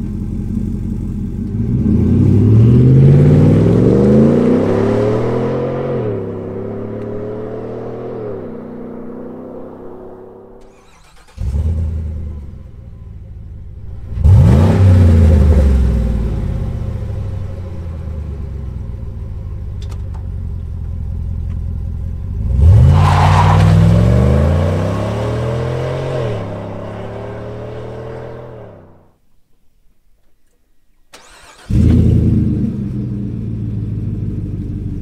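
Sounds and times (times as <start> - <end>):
truck engine idling and revving: 0.0 - 29.0, 31.2 - 35.0.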